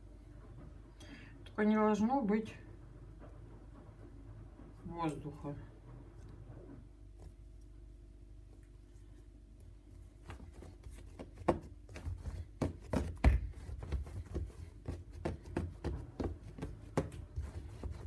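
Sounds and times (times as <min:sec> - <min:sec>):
faint steady hum: 0:00.0 - 0:18.0
hands rolling dough: 0:03.1 - 0:18.0.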